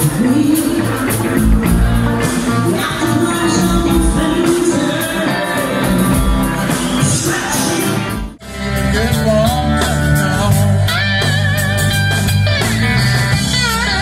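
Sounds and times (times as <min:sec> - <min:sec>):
woman singing lead: 0:00.0 - 0:01.8, 0:02.6 - 0:12.0, 0:13.3 - 0:14.0
blues-rock guitar performance: 0:00.0 - 0:14.0
live rock band playing: 0:00.0 - 0:14.0.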